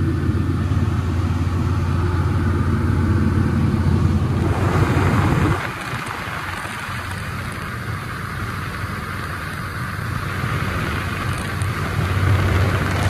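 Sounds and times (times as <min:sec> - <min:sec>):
aircraft engine drone: 0:00.0 - 0:13.0
rushing air: 0:00.0 - 0:13.0.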